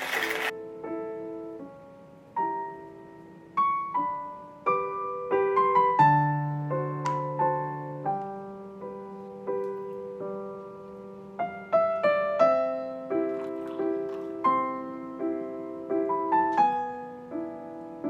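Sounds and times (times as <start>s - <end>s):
soft piano music: 0.2s - 18.0s.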